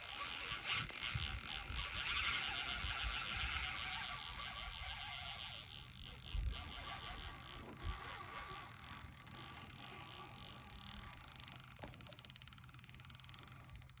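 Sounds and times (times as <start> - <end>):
fishing reel drag whirring: 0.0 - 14.0.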